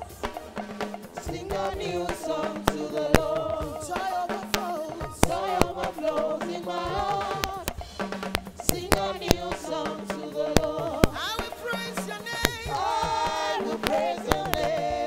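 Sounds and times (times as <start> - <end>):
drums and percussion: 0.0 - 15.0
voices singing gospel: 0.0 - 15.0.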